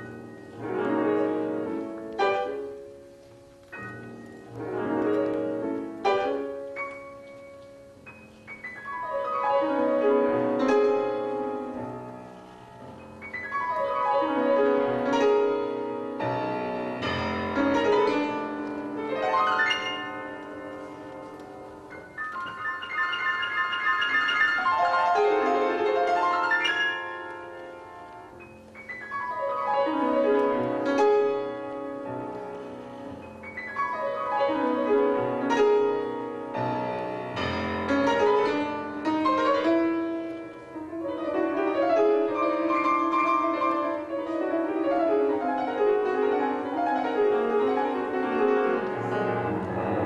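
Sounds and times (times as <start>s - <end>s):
classical piano music: 0.0s - 50.0s.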